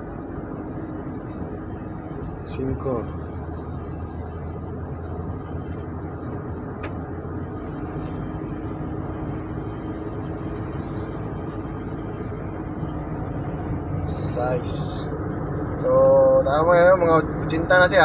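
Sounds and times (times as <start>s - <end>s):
van engine accelerating: 0.0s - 18.0s.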